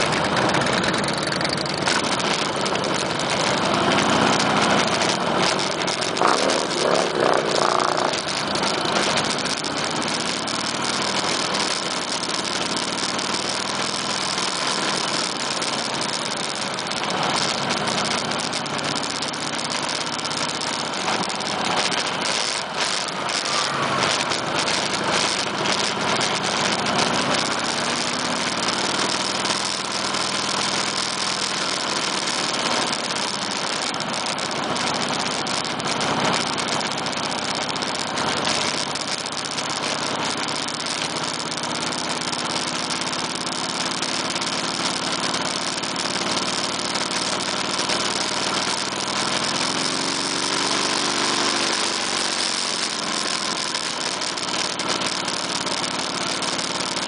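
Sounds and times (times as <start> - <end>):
motorcycle engines running slowly: 0.0 - 57.0.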